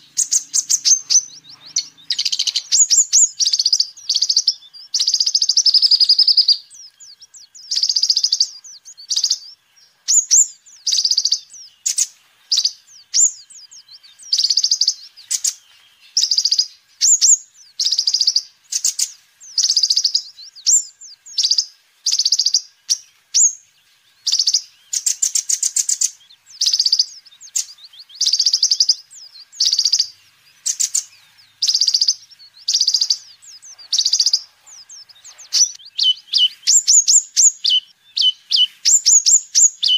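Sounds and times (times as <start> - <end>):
sunbird singing high trills: 0.0 - 39.9.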